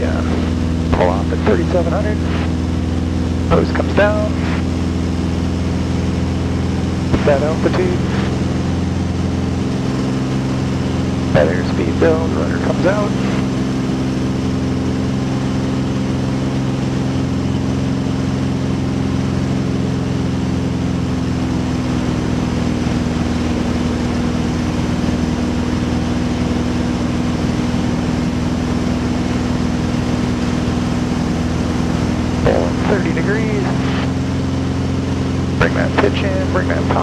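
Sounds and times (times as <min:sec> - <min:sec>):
propeller engine droning: 0:00.0 - 0:37.0.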